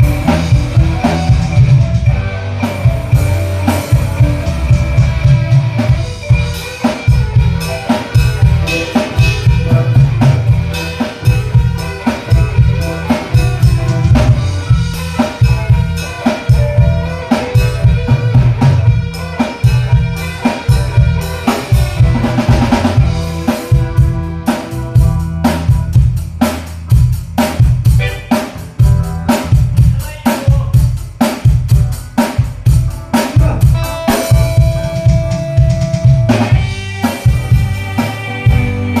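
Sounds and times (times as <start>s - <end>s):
drum kit hits: 0.0s - 39.0s
rock band music: 0.0s - 39.0s.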